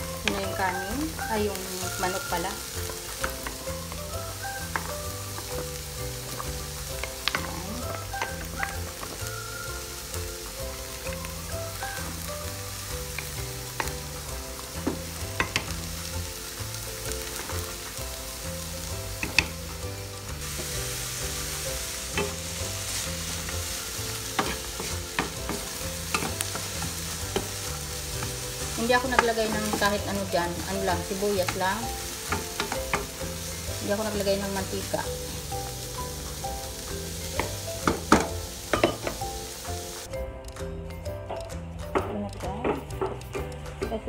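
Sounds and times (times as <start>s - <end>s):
onions sizzling in pan: 0.0s - 40.2s
pot simmering: 0.0s - 44.0s
soft background music: 0.0s - 44.0s.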